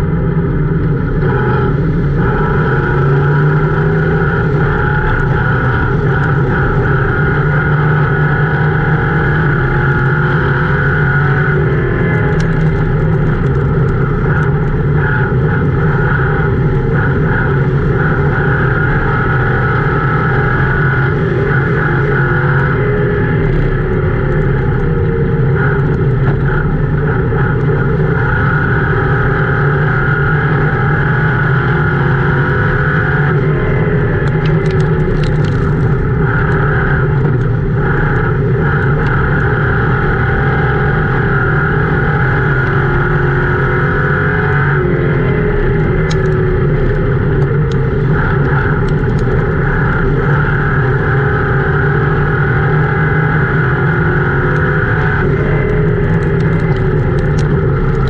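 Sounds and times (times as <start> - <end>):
race car engine droning: 0.0 - 58.0.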